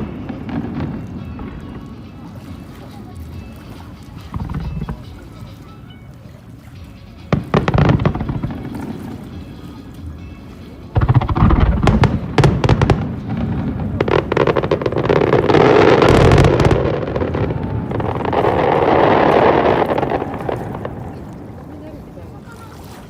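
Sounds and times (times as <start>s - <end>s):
fireworks bangs and crackles: 0.0s - 5.3s, 7.3s - 10.2s, 10.9s - 22.1s.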